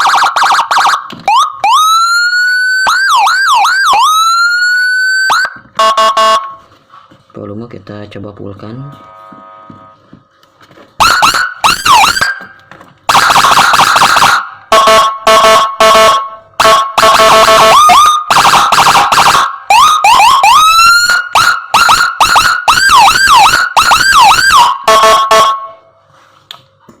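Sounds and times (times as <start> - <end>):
electronic siren wailing: 0.0 - 6.6, 8.8 - 10.1, 11.0 - 25.8.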